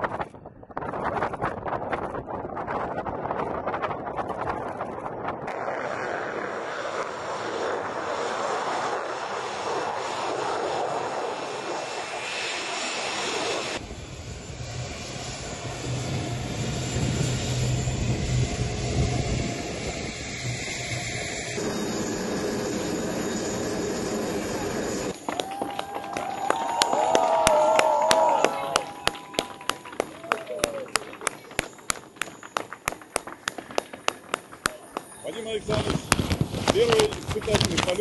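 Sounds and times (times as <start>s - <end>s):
turbofan hum: 0.0s - 38.0s
jet engines rushing: 0.1s - 38.0s.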